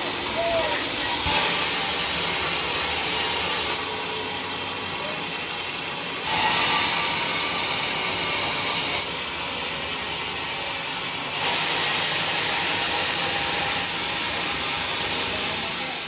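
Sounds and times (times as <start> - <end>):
saw cutting wood: 0.0 - 16.0.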